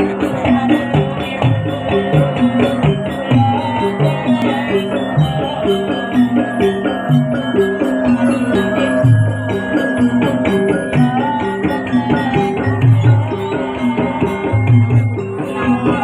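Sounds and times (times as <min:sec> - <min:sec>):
gamelan ensemble playing: 0:00.0 - 0:16.0
jingling on the beat: 0:00.0 - 0:16.0.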